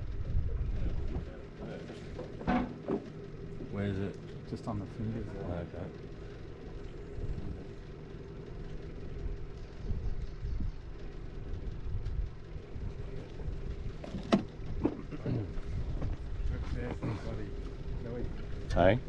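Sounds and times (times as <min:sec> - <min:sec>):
boat motor rumbling: 0:00.0 - 0:19.0.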